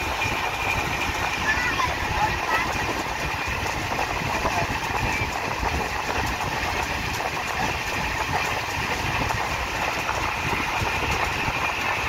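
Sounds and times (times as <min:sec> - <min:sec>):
train wheels on track: 0:00.0 - 0:12.0.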